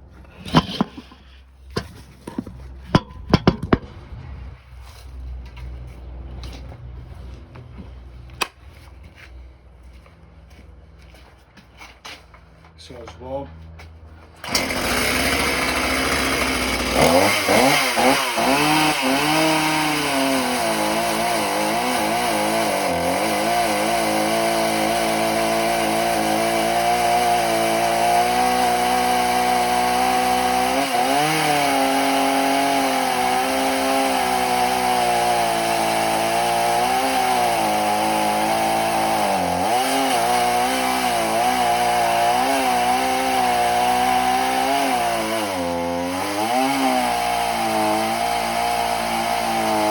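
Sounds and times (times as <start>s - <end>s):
chainsaw cutting wood: 0.0s - 4.5s, 14.4s - 49.9s.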